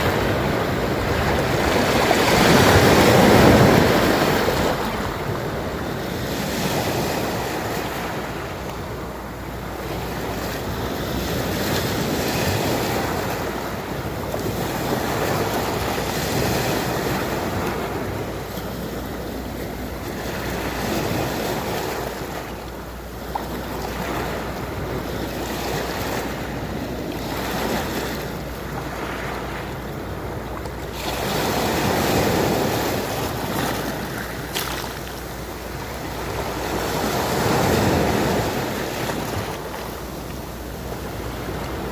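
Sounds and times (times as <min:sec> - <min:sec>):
sea waves washing: 0:00.0 - 0:41.9.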